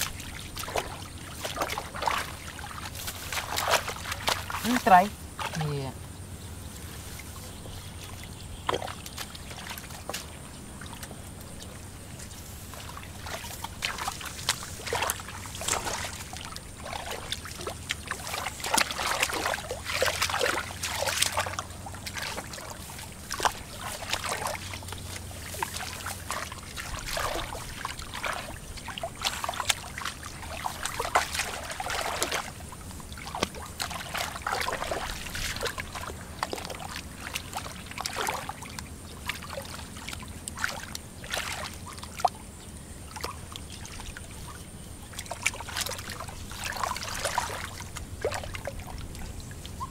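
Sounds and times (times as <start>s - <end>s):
splashing in muddy water: 0.0s - 49.9s.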